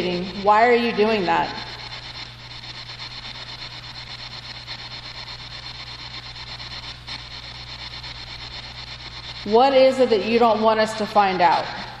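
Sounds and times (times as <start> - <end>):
low electrical hum: 0.0 - 12.0
radio static chopping hiss: 0.0 - 12.0.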